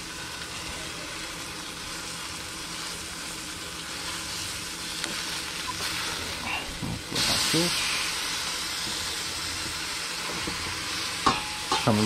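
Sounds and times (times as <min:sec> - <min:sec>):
fish sizzling in skillet: 0:00.0 - 0:12.0.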